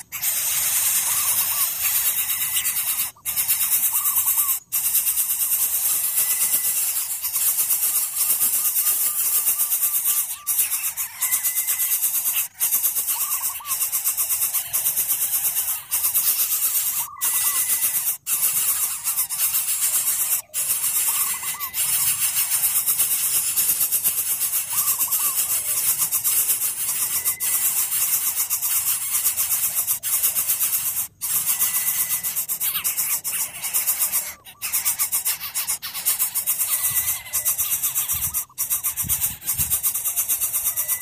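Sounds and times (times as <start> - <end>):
nestlings begging rasping: 0.0 - 41.0.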